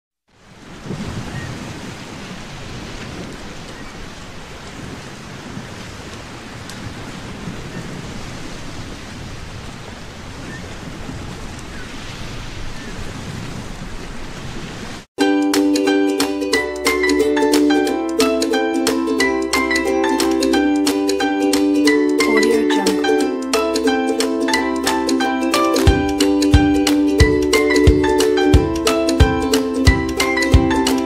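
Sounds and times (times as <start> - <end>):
stormy sea waves rushing: 0.3 - 15.1, 16.6 - 31.0.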